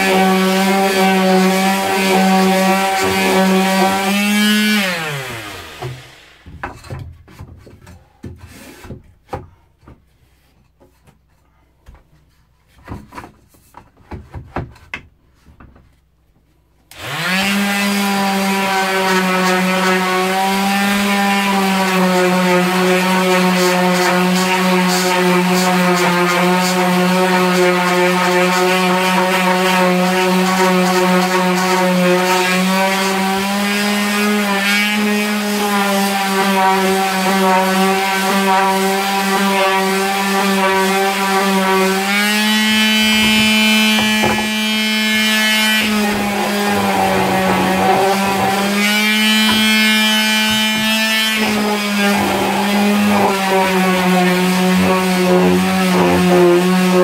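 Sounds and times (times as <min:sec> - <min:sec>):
electric sander buzzing on wood: 0:00.0 - 0:06.5, 0:16.9 - 0:57.0.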